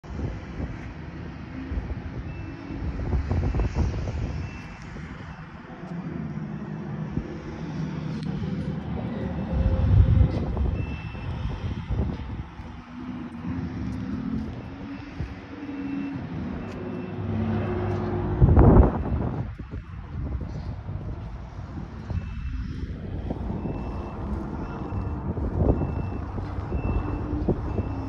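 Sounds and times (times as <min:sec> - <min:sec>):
low engine rumble: 0:00.0 - 0:28.0.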